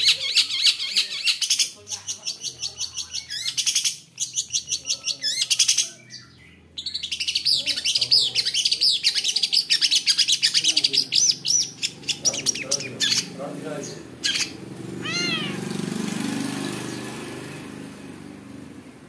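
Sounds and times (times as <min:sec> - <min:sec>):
bird singing: 0:00.0 - 0:16.0.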